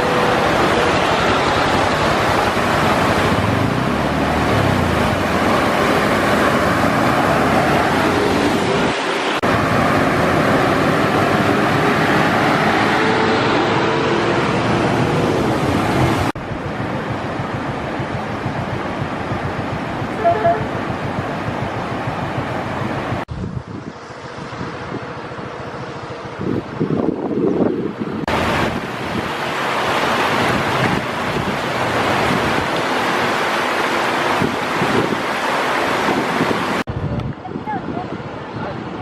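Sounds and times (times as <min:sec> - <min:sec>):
floodwater rushing: 0:00.0 - 0:23.3, 0:23.9 - 0:36.9.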